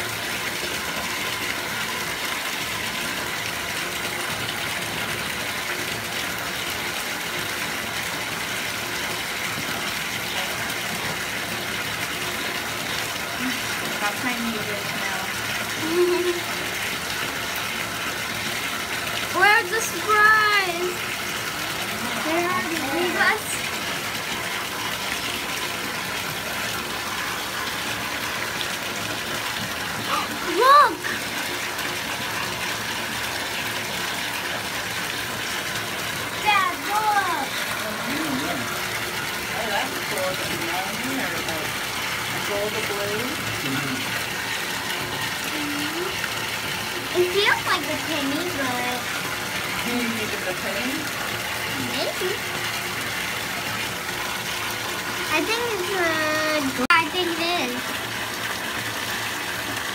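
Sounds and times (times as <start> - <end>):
water hissing in bathtub: 0.0 - 59.9.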